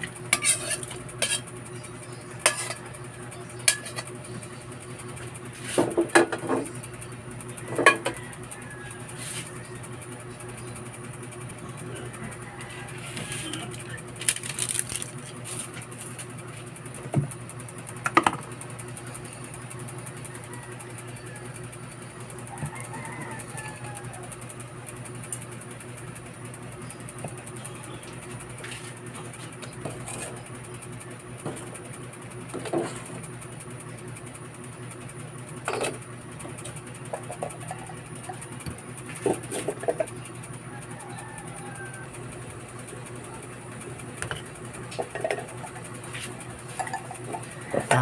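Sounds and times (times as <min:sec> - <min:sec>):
motor hum with high whine: 0:00.0 - 0:48.0.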